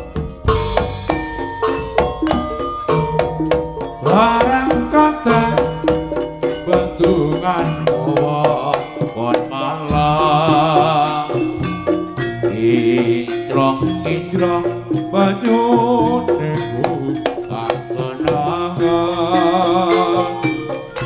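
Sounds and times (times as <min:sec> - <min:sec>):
drums beating rapid strokes: 0:00.0 - 0:21.0
gongs and metallophones: 0:00.0 - 0:21.0
wavering melodic line: 0:00.0 - 0:21.0.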